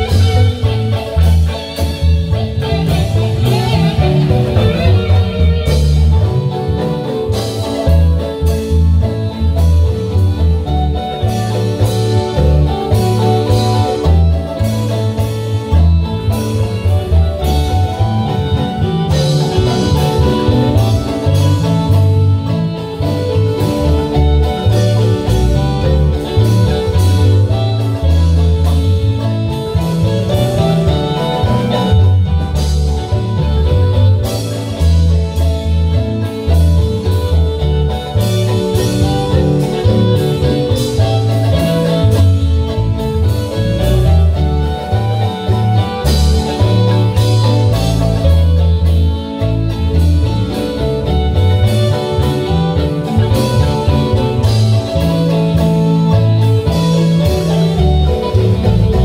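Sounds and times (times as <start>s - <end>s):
marimba band dance music: 0.0s - 59.0s
pulsing bass line: 0.0s - 59.0s
steady drum beat: 0.0s - 59.0s.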